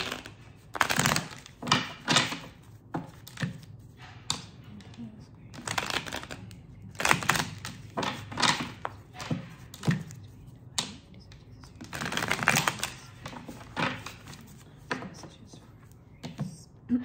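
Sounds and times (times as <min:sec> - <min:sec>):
cards being shuffled: 0:00.0 - 0:16.5.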